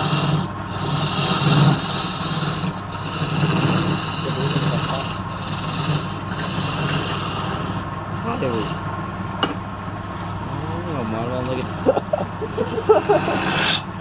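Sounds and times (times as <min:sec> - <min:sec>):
tool scraping spinning wood: 0:00.0 - 0:08.9, 0:11.0 - 0:14.0
wood lathe motor hum: 0:00.0 - 0:08.9, 0:11.6 - 0:14.0.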